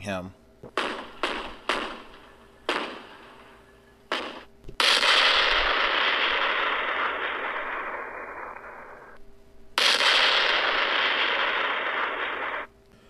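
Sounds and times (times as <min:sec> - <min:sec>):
anti-aircraft gunshots: 0:00.6 - 0:09.2, 0:09.8 - 0:12.7
shell bursting blast: 0:00.6 - 0:09.2, 0:09.8 - 0:12.8.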